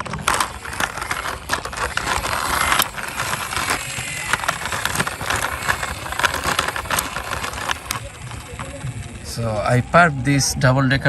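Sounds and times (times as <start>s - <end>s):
small clicks and knocks: 0.0s - 9.2s
toy wheels rolling and scraping: 0.0s - 10.0s.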